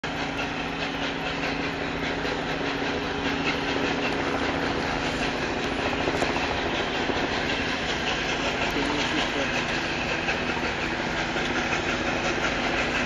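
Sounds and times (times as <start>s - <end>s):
low hum: 0.0s - 13.0s
steam locomotive running noise: 0.0s - 13.0s
wheels clattering over rail joints: 0.0s - 13.0s.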